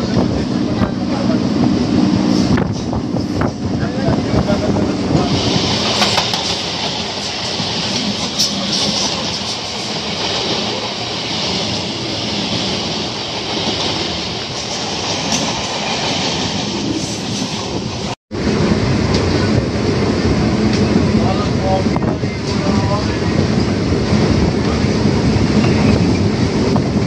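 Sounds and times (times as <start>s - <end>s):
passing train: 0.0s - 27.0s
train wheels rumbling on rail: 0.0s - 27.0s.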